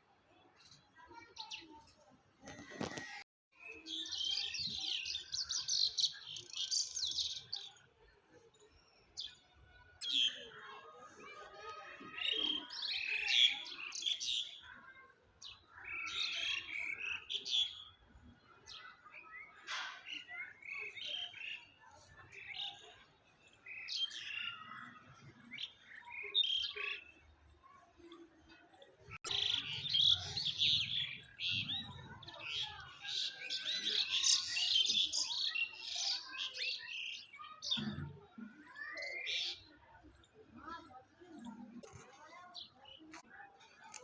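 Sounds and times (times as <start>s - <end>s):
songbirds chirping and singing: 0.6s - 44.0s.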